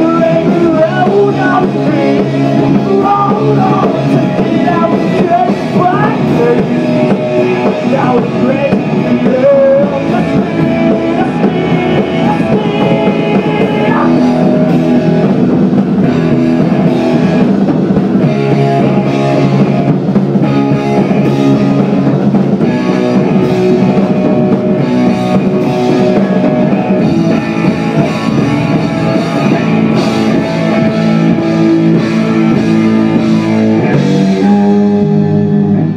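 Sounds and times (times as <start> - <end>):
drum kit: 0.0 - 35.9
electric guitar: 0.0 - 35.9.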